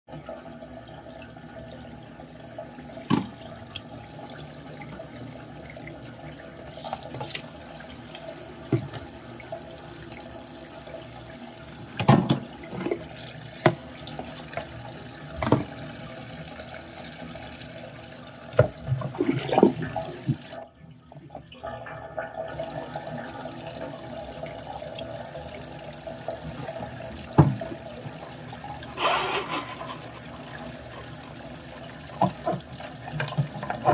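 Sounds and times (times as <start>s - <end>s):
water splashing in a sink: 0.1s - 33.9s.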